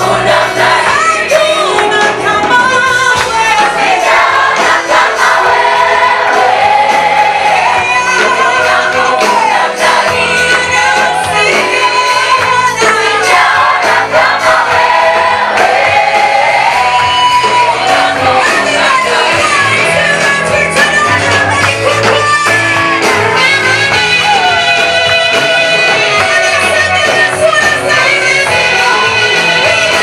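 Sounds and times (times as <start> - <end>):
choir singing gospel song: 0.0 - 30.0
instrumental backing with beat: 0.0 - 30.0.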